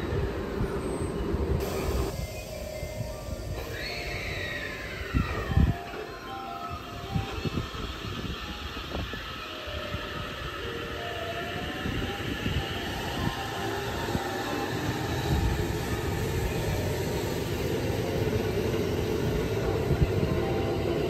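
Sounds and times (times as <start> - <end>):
wheels rumbling on rail: 0.0 - 21.0
electric train motor whine: 1.6 - 21.0.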